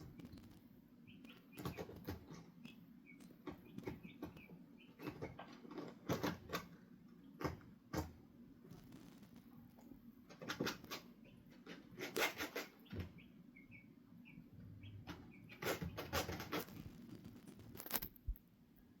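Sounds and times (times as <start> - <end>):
chickens scratching and rustling: 0.0 - 13.2, 15.0 - 18.4.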